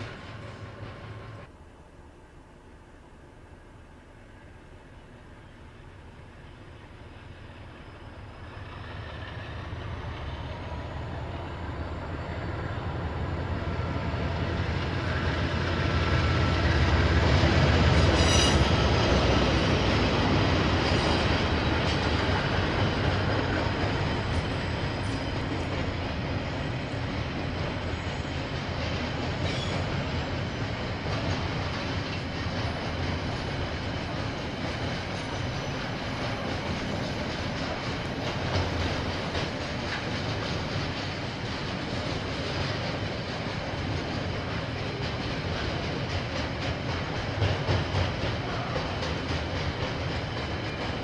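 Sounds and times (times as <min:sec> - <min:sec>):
train rumbling past: 0:00.0 - 0:51.0.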